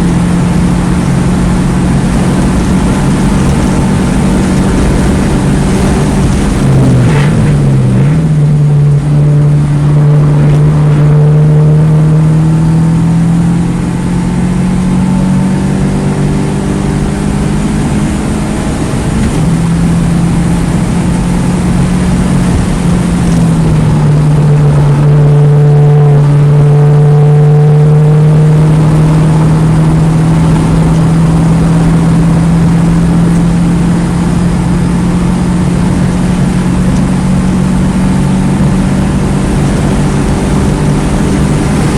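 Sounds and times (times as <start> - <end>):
car engine running hard: 0.0 - 41.9
road and wind noise: 0.0 - 41.9.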